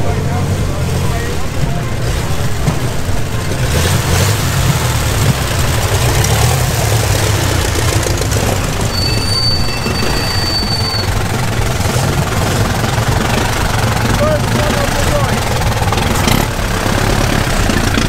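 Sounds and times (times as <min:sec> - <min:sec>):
racing car engines rumbling: 0:00.0 - 0:18.0.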